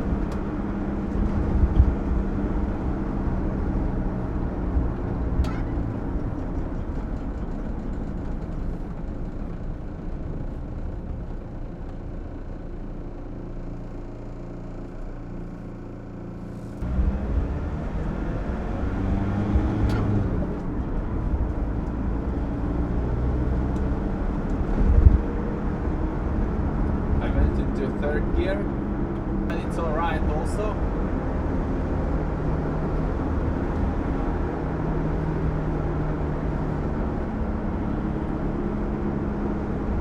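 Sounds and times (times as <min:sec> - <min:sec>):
van engine accelerating: 0:00.0 - 0:40.0.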